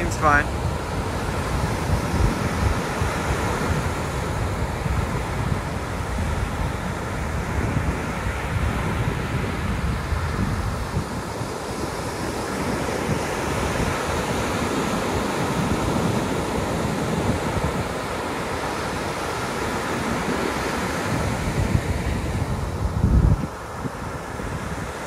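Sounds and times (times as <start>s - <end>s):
surf washing up a beach: 0.0s - 25.0s.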